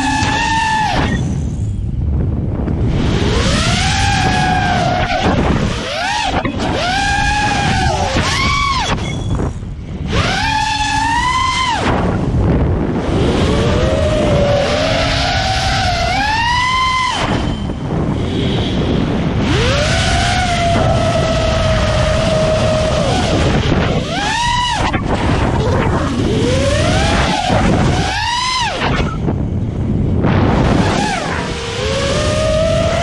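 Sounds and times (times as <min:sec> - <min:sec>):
drone motors whining: 0:00.0 - 0:33.0
wind noise: 0:00.0 - 0:33.0.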